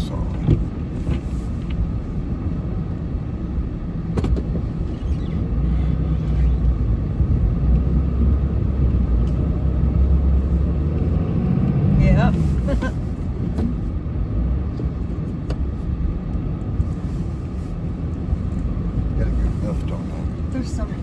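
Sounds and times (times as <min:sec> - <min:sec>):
truck engine rumbling under load: 0:00.0 - 0:21.0.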